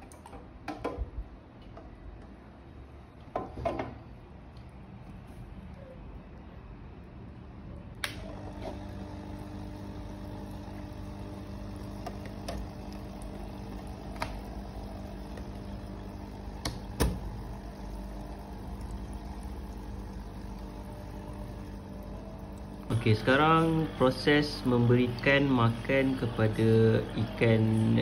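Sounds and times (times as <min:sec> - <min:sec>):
aquarium air pump humming: 0:05.2 - 0:28.0.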